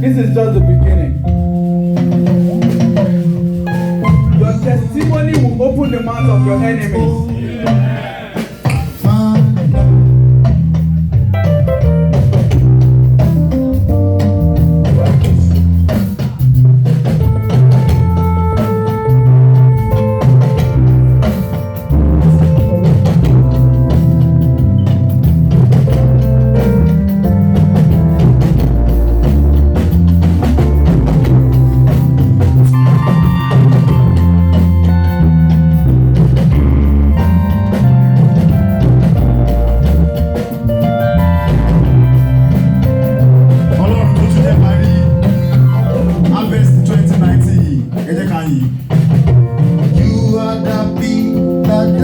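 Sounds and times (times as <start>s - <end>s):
live band playing upbeat instrumental: 0.0s - 52.0s.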